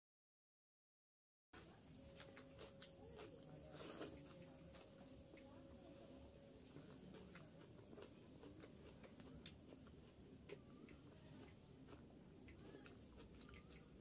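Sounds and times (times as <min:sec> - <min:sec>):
mouth chewing food: 0:01.6 - 0:14.0.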